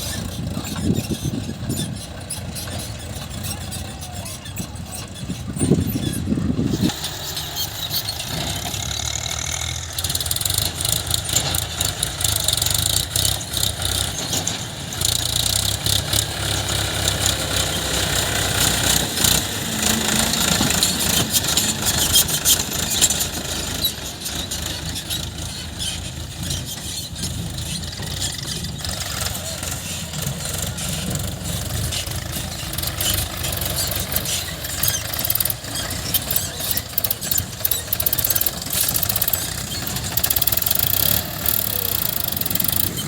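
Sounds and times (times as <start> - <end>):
diesel machinery engine running: 0.0 - 43.0.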